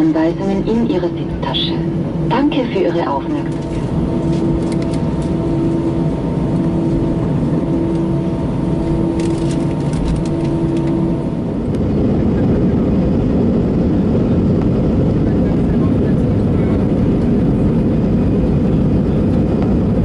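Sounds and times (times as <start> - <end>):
droning hum: 0.0 - 20.0
jet engines running: 0.0 - 20.0.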